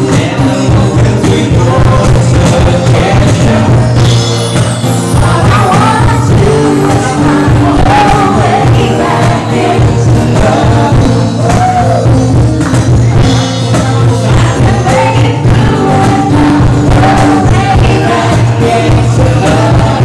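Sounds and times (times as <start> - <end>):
man and woman singing duet: 0.0 - 4.2, 4.8 - 12.1, 14.0 - 20.0
guitar: 0.0 - 20.0.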